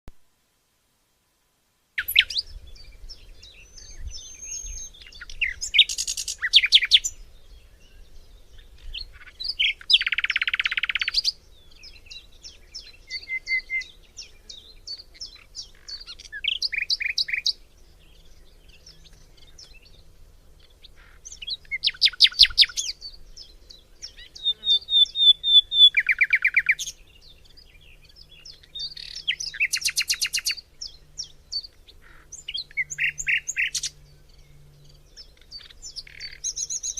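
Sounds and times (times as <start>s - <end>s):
songbirds singing and calling: 2.0s - 36.9s.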